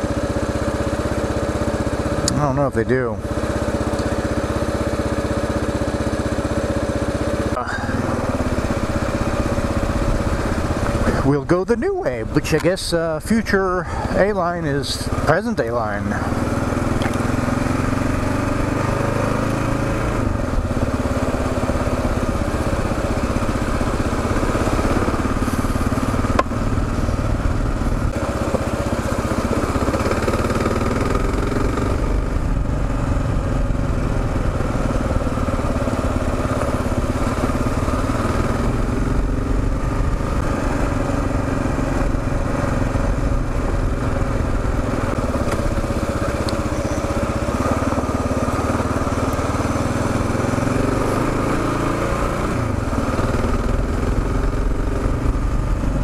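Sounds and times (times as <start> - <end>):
motorcycle engine running: 0.0 - 56.0
tyres on gravel road: 0.0 - 56.0.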